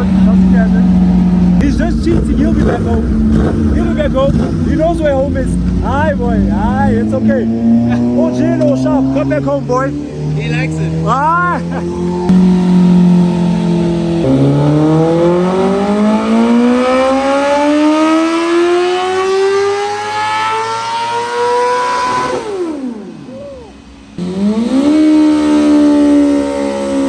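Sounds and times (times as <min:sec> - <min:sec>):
engine at steady high pitch: 0:00.0 - 0:27.0
motorcycle engine revving: 0:00.0 - 0:27.0.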